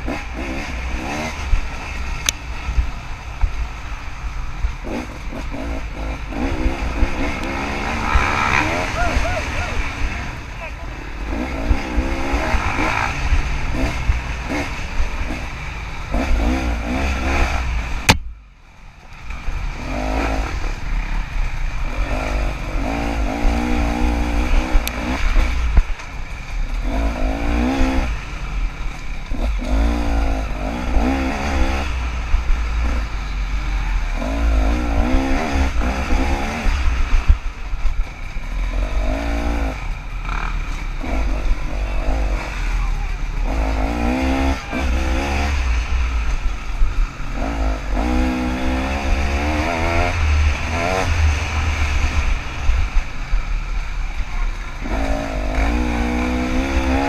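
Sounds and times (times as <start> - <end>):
dirt bike engine revving: 0.0 - 18.2, 19.3 - 57.0.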